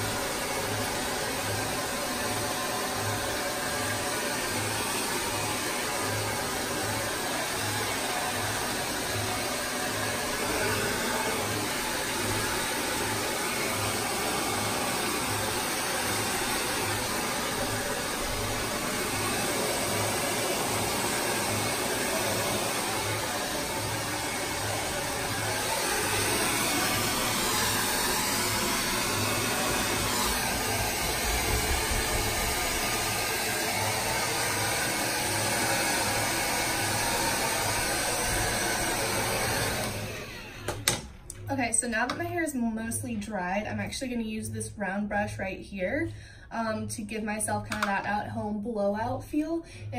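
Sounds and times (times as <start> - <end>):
hair dryer blowing: 0.0 - 41.3.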